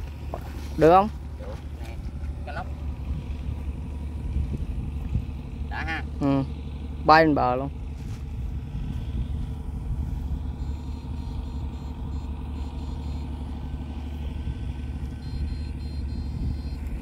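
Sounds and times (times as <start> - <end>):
electric power unit humming: 0.0 - 17.0.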